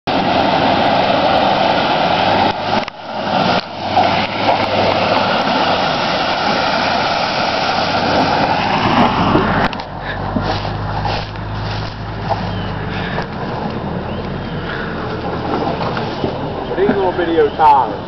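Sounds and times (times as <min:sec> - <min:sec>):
truck engine revving: 0:00.0 - 0:18.0
wheels churning mud and water: 0:00.0 - 0:18.0.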